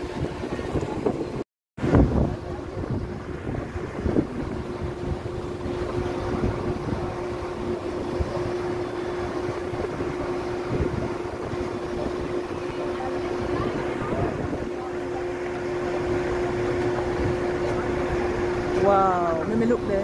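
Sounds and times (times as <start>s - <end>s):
boat engine hum: 0.0s - 20.0s
wind buffeting microphone: 0.0s - 20.0s.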